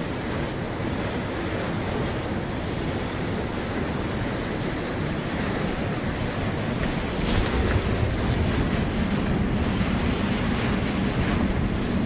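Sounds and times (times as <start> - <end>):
strong wind rushing: 0.0 - 12.0.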